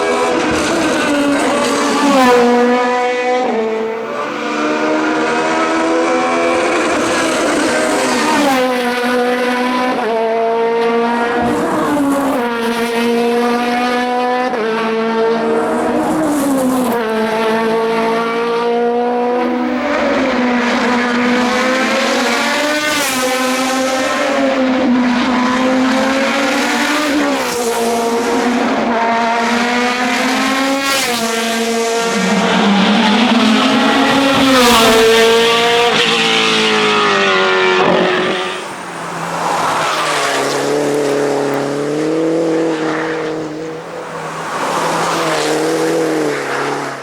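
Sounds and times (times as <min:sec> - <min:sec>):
racing car engine revving: 0:00.0 - 0:47.0.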